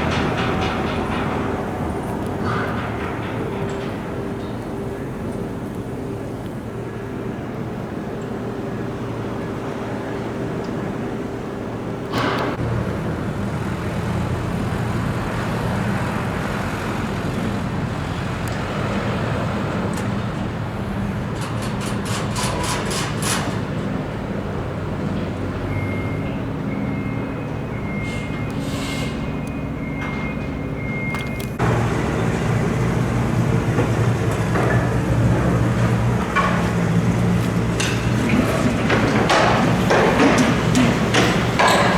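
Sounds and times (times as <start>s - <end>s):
traffic noise: 0.0s - 41.9s
vehicle engines running: 0.0s - 41.9s.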